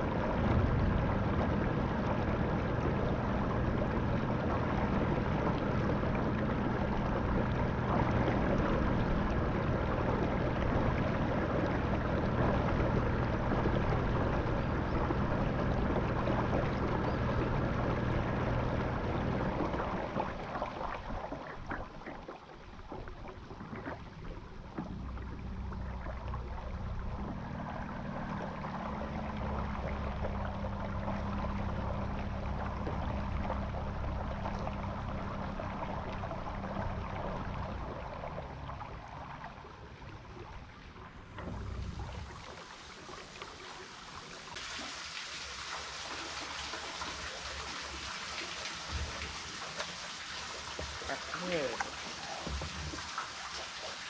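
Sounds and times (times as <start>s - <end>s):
kayak motor humming: 0.0s - 44.6s
water rushing along hull: 0.0s - 54.0s.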